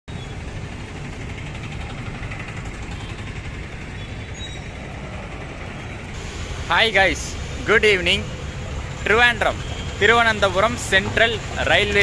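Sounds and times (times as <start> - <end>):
street traffic rumble: 0.1 - 12.0.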